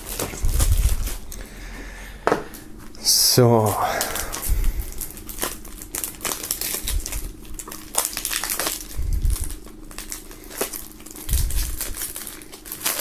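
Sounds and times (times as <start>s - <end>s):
plastic wrap crinkling: 0.0s - 1.6s, 2.5s - 13.0s.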